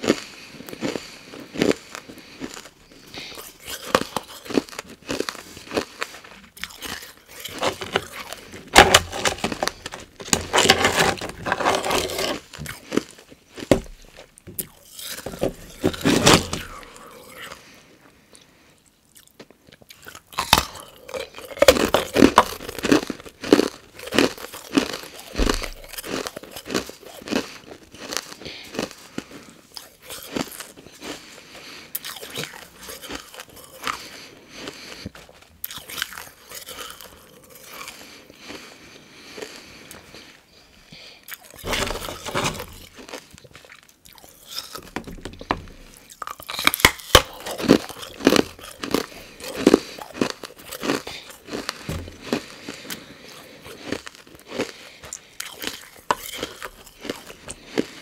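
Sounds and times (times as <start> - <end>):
crunching and chewing ice: 0.0 - 58.0.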